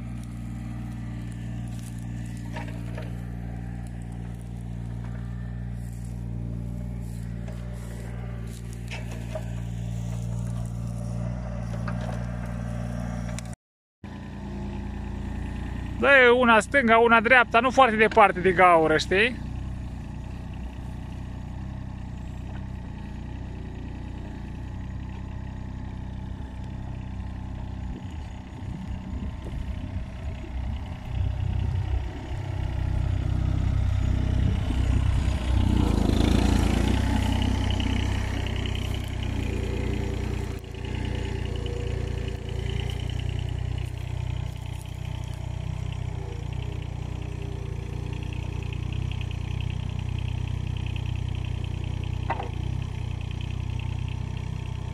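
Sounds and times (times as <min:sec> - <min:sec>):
mini excavator diesel engine: 0:00.0 - 0:54.9.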